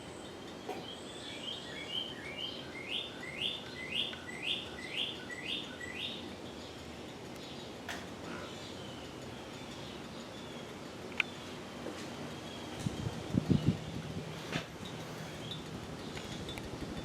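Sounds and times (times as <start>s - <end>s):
ceiling fan whirring: 0.0s - 17.0s
songbird chirping: 0.0s - 17.0s.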